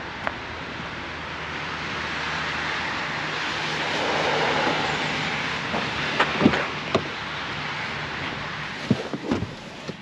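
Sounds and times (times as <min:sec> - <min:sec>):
car engine droning: 0:00.0 - 0:10.0
wind and tyre noise: 0:00.0 - 0:10.0.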